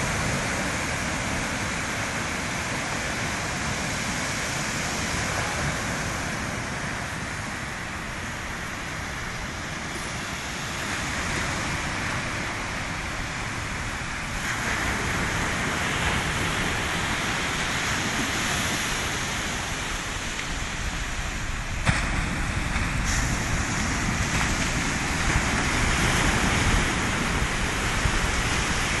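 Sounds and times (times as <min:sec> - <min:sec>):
surf washing up a beach: 0:00.0 - 0:29.0
wind buffeting microphone: 0:00.0 - 0:29.0.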